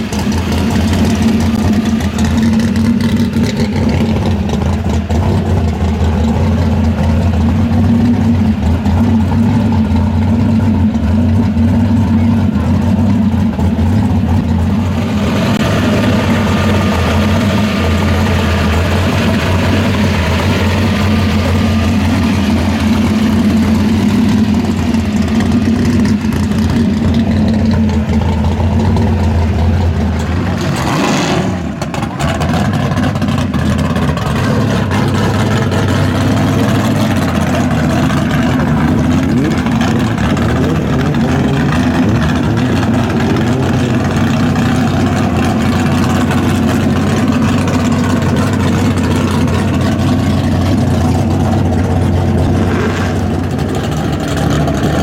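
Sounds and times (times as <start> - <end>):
car engine idling loudly: 0.0 - 55.0.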